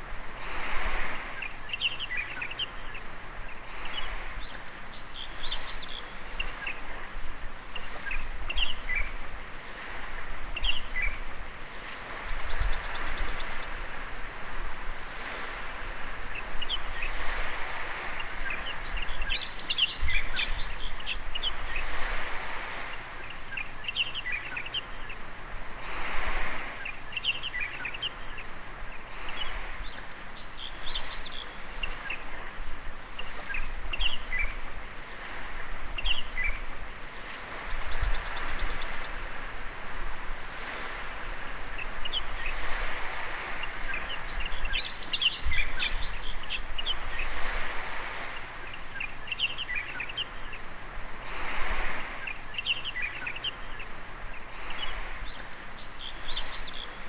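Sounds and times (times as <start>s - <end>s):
small waves washing onto beach: 0.0s - 57.0s
birds chirping: 1.2s - 7.1s, 7.7s - 14.0s, 15.2s - 25.3s, 26.5s - 51.0s, 51.8s - 57.0s.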